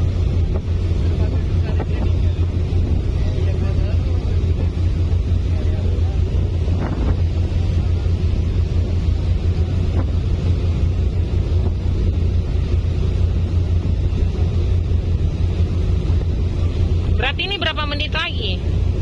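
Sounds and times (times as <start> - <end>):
ferry engines droning: 0.0 - 19.0
wind buffeting microphone: 0.0 - 19.0.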